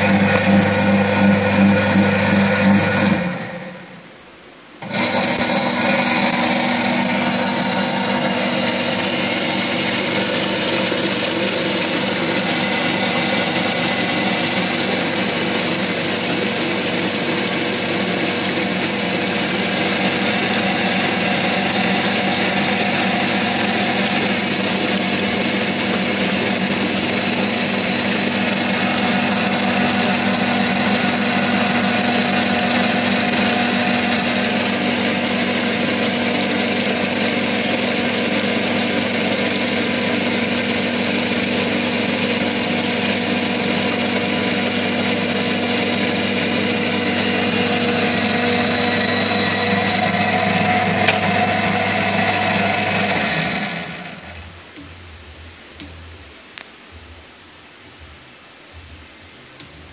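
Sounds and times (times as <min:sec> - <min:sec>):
electric pump motor humming: 0:00.0 - 0:04.0, 0:04.8 - 0:54.6.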